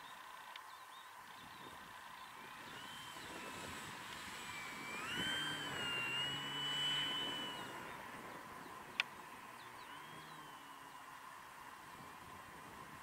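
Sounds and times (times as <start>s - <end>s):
electric motor and propeller whine: 0.0s - 13.0s.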